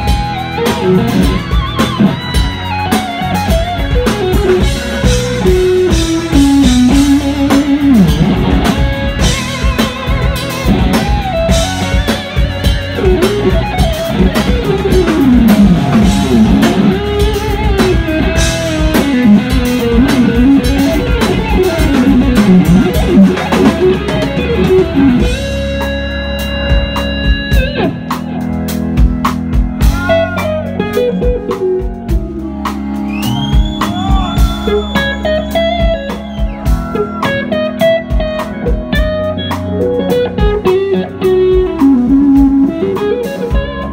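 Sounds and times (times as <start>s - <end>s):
electric guitar solo: 0.0s - 29.0s, 29.7s - 43.9s
blues-rock band playing: 0.0s - 43.9s.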